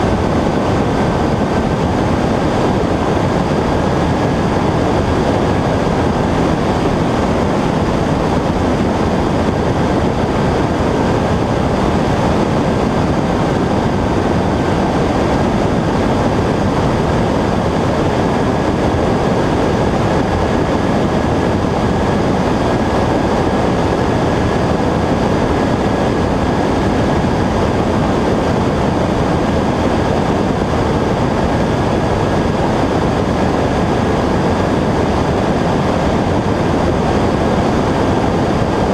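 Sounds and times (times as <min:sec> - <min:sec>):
airplane engine drone: 0:00.0 - 0:38.9
rushing air: 0:00.0 - 0:38.9.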